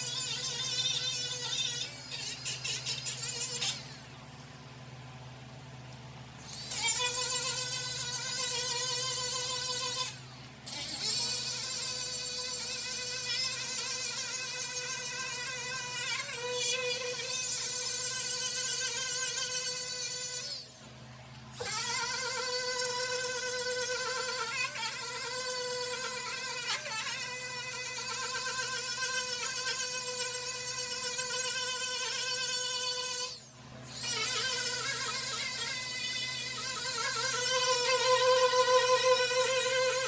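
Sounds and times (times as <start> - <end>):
angle grinder on sheet metal: 0.0 - 4.1, 6.4 - 20.7, 21.5 - 40.0.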